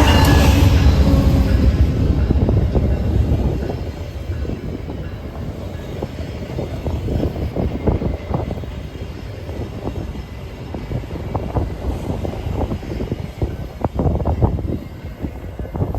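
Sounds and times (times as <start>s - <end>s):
train rumble: 0.0s - 15.9s.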